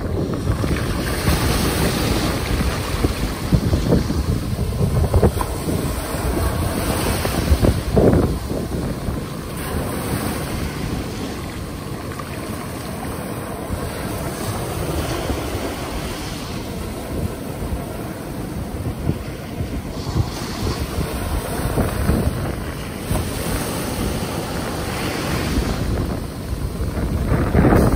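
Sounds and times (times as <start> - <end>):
ocean waves breaking: 0.0 - 27.9
wind buffeting microphone: 0.0 - 27.9.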